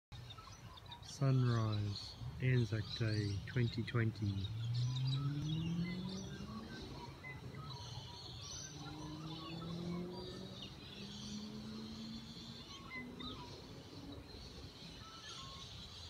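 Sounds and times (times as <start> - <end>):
birds chirping: 0.1 - 16.0
vehicle engine hum: 1.1 - 15.6.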